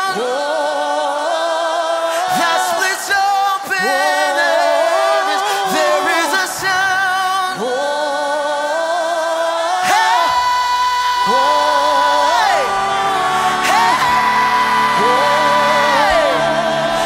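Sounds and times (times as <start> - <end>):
man singing worship song: 0.0 - 17.0.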